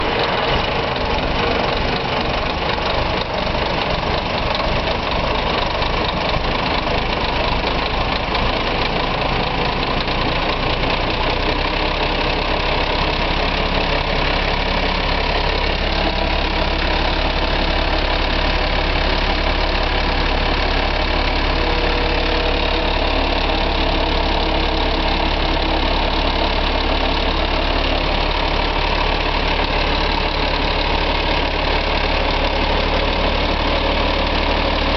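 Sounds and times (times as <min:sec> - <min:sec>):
bus diesel engine idling: 0:00.0 - 0:34.9.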